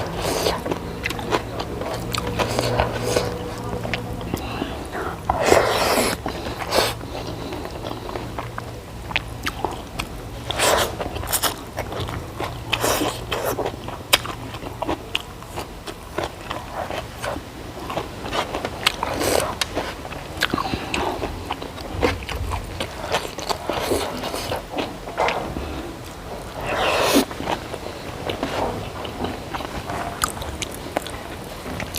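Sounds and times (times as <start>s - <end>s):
person chewing crunchy food: 0.0s - 31.9s.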